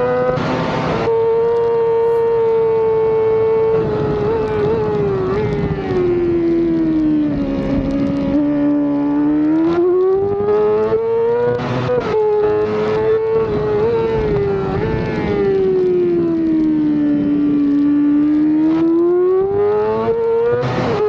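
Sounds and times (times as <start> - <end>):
rushing wind: 0.0 - 18.9
motorcycle engine revving: 0.0 - 21.0.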